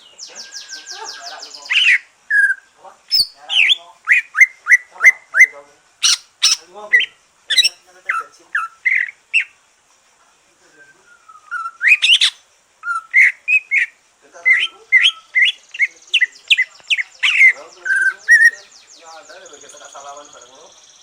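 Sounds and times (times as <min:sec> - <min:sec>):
bird singing whistled chirps: 0:00.0 - 0:07.8, 0:10.6 - 0:21.0.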